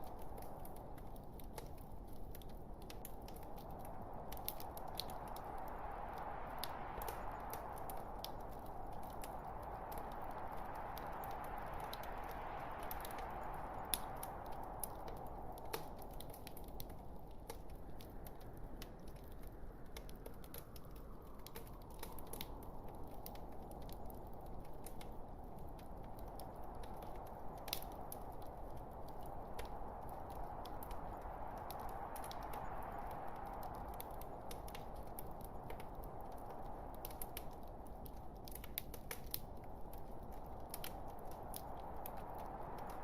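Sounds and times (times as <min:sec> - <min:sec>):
fire crackling and popping: 0:00.0 - 0:43.0.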